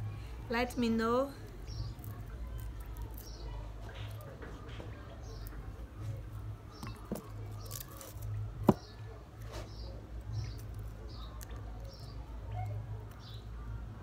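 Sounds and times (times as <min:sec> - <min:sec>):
fingers peeling garlic skins: 0:01.4 - 0:14.0.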